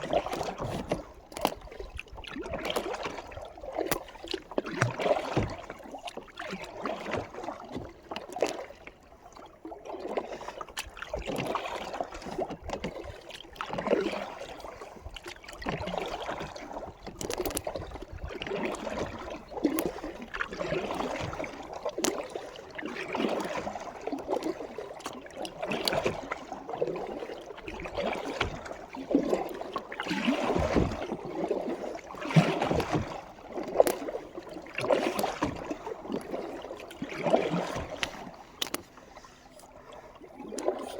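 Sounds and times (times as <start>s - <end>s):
kayak paddle splashing: 0.0s - 40.9s.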